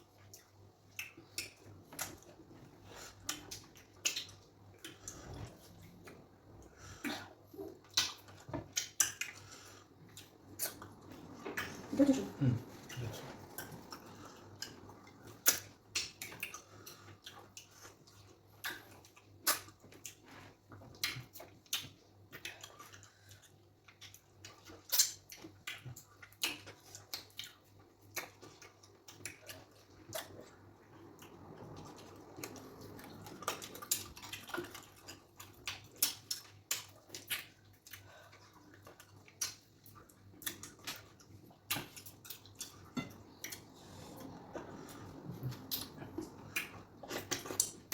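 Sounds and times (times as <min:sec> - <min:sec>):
wet chewing and lip smacking: 0:00.0 - 0:47.9.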